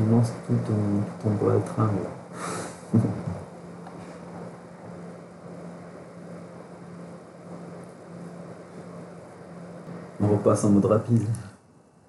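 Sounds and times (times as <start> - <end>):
background hiss: 0.0 - 12.0
faint low hum: 0.0 - 12.0.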